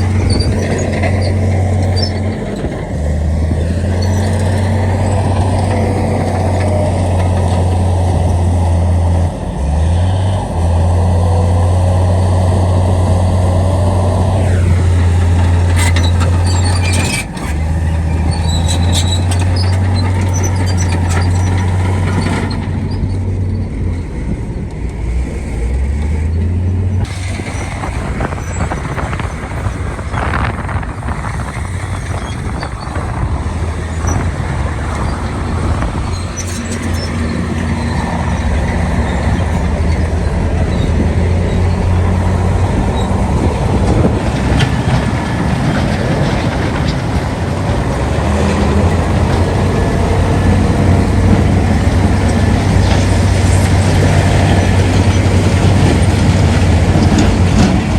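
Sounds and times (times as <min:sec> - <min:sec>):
heavy diesel engines droning: 0:00.0 - 0:57.9.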